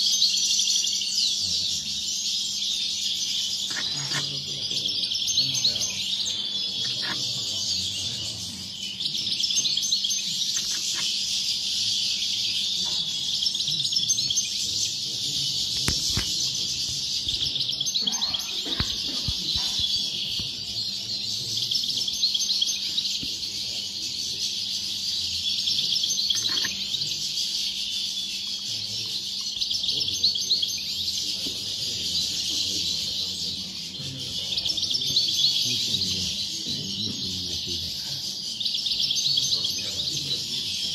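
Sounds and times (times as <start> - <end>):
goldfinches twittering chorus: 0.0 - 40.9.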